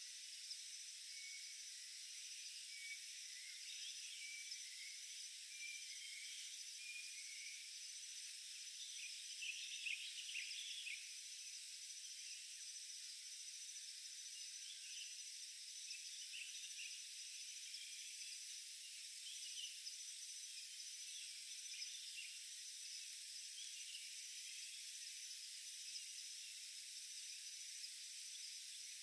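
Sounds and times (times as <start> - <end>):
high-pitched insect drone: 0.0 - 29.0
short insect chirps: 0.0 - 29.0.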